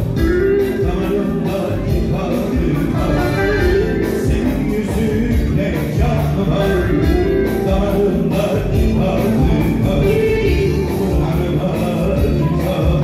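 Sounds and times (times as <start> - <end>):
live band with steady beat: 0.0 - 13.0
man singing: 0.0 - 13.0.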